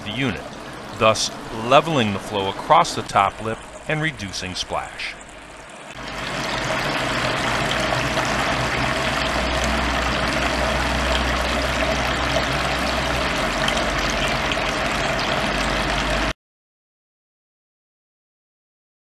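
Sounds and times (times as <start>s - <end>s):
fountain water trickling: 0.0s - 16.3s
low steady hum: 0.0s - 16.3s.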